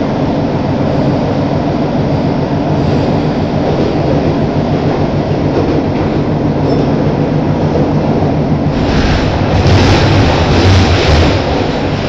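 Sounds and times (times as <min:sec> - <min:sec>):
subway train running in tunnel: 0:00.0 - 0:12.0.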